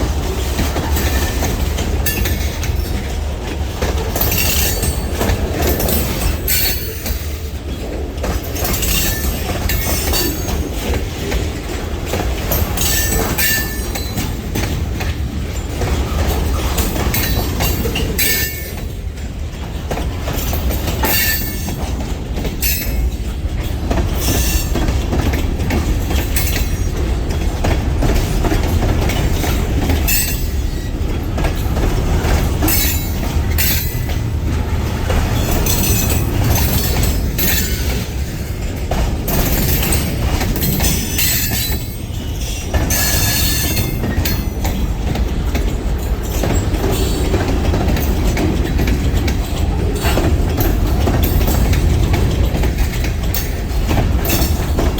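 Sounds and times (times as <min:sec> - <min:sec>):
train wheels rumbling on rails: 0:00.0 - 0:54.9
wheels squealing on rails: 0:00.0 - 0:54.9.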